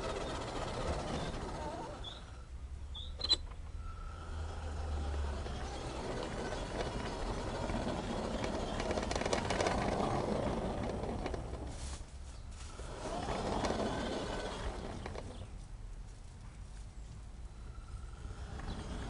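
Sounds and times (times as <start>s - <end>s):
model train wheels rattling: 0.0s - 12.0s, 12.6s - 15.5s, 18.0s - 19.0s.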